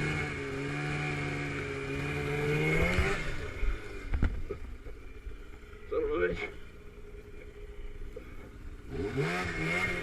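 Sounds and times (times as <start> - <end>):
snowmobile engine running: 0.0 - 6.6, 8.0 - 10.0.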